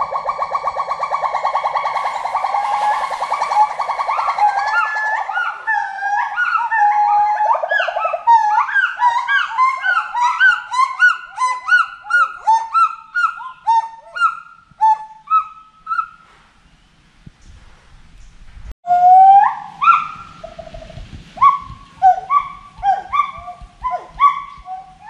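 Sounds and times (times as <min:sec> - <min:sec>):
gibbons whooping hoots: 0:00.0 - 0:16.0, 0:18.9 - 0:25.0.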